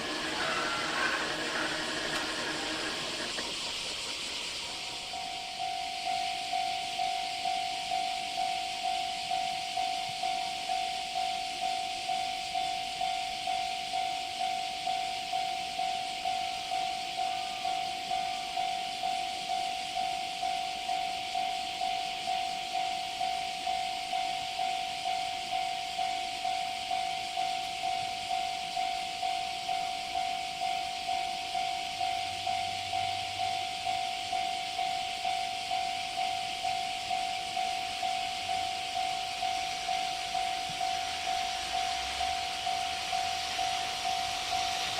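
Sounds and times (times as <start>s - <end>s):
high-pitched hiss: 0.0s - 44.9s
level crossing warning bell: 0.0s - 44.9s.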